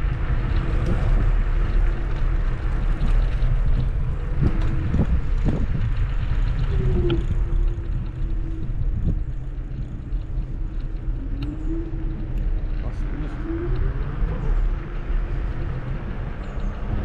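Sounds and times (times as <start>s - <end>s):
wind and tyre rumble: 0.0s - 17.0s.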